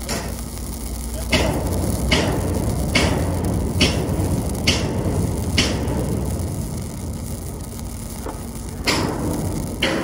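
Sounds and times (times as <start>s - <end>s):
welding arc crackling: 0.0s - 10.0s.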